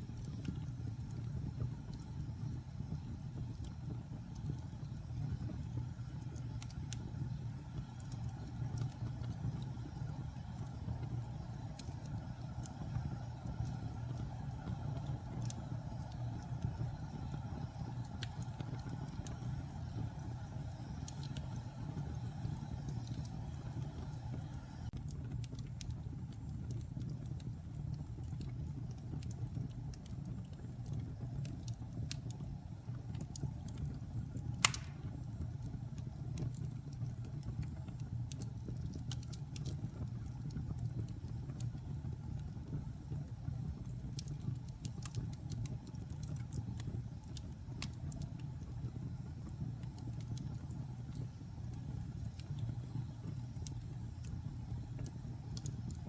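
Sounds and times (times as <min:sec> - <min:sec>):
campfire crackling and popping: 0:00.0 - 0:56.0
fire low rumble: 0:00.0 - 0:56.0.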